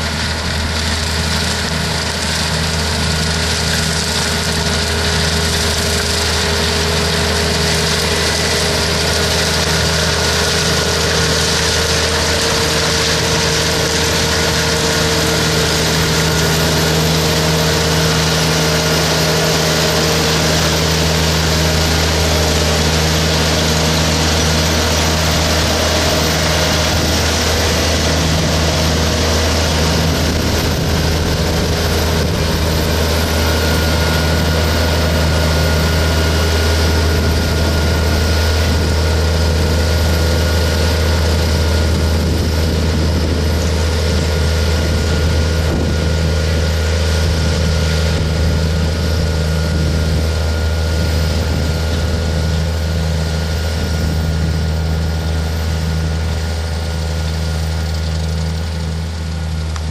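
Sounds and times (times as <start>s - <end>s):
diesel engine droning: 0.0s - 59.9s
machinery noise: 0.0s - 59.9s.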